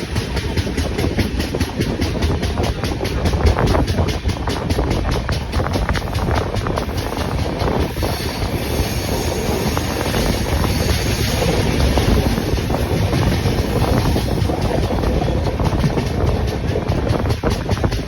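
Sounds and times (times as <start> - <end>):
train rattling: 0.0 - 18.0
train wheels rumbling on rails: 0.0 - 18.0.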